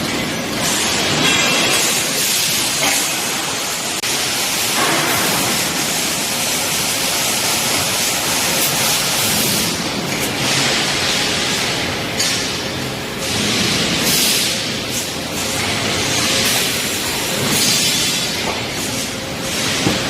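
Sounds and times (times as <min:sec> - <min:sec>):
rebar bending machine running: 0:00.0 - 0:20.0.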